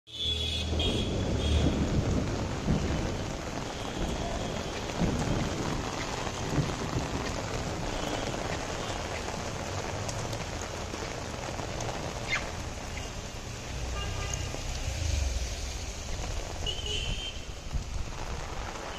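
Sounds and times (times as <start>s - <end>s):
heavy rain on a street: 0.1s - 18.9s.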